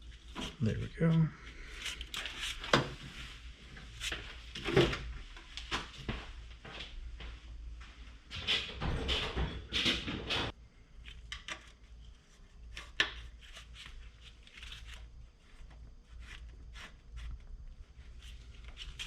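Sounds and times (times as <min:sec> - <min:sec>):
rustling and scraping of tools: 0:01.5 - 0:19.0.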